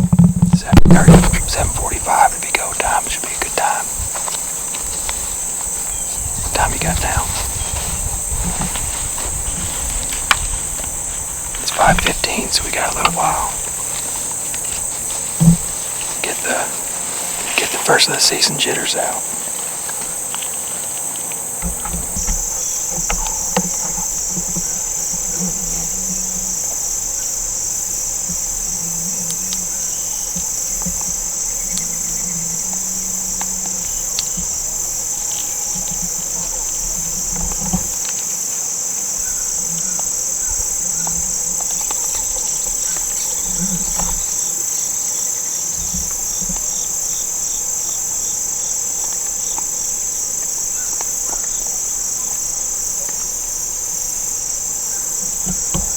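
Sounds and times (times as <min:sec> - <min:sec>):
crickets and insects chorus: 0:00.0 - 0:55.9.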